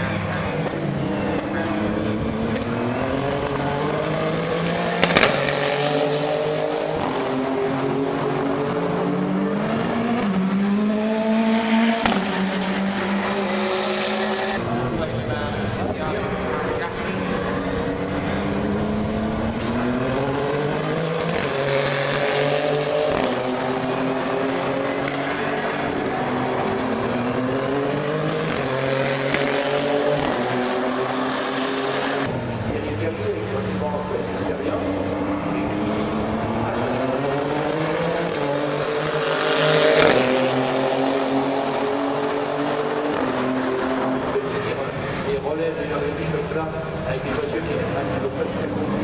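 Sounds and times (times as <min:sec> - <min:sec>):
race car engines: 0:00.0 - 0:49.0.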